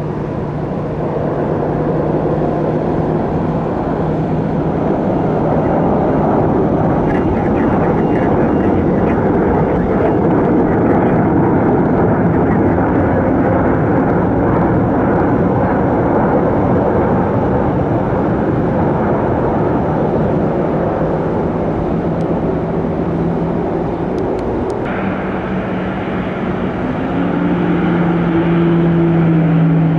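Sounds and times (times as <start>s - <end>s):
aircraft engines running: 0.0s - 29.9s.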